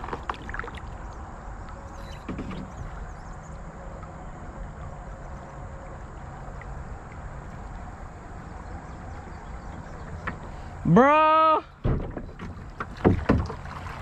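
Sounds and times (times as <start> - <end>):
low steady rumble: 0.0 - 14.0
water lapping against hull: 0.0 - 14.0.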